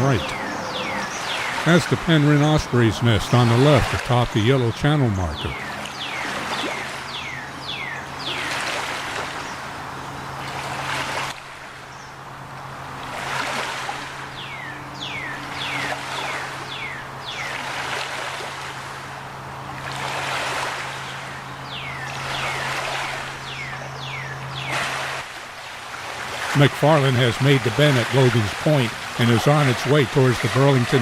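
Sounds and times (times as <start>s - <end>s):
low engine hum: 0.0s - 31.0s
ospreys calling: 0.0s - 31.0s
rushing water: 0.0s - 31.0s.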